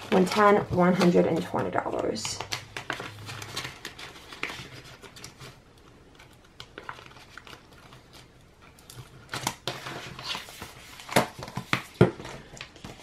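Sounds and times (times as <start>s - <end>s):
rustling of bills and plastic: 0.0s - 13.0s.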